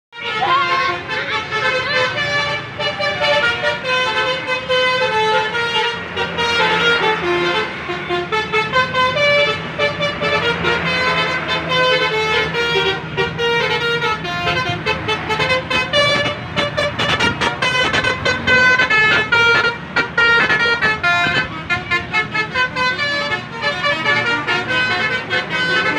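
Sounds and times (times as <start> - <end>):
bus engine: 0.1 - 25.9
multi-tone bus air horn melody: 0.1 - 25.9.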